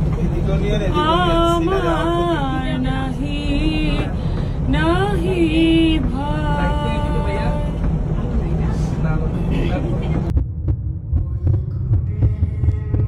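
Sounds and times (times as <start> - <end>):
vehicle road noise rumble: 0.0 - 13.0.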